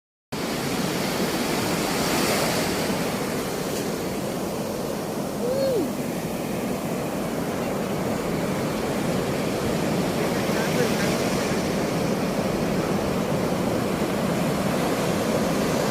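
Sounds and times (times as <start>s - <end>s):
ocean surf washing: 0.4s - 15.9s.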